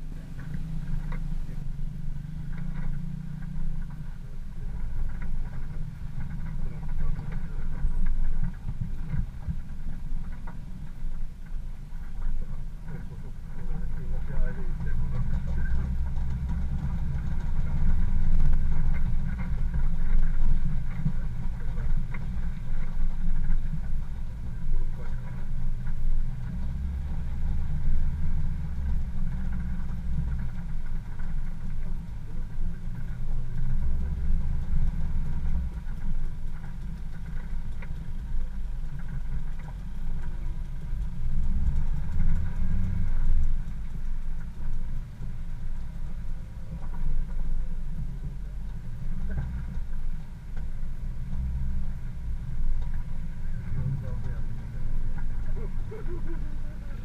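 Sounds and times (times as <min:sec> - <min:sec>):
off-road vehicle engine rumble: 0:00.0 - 0:57.0.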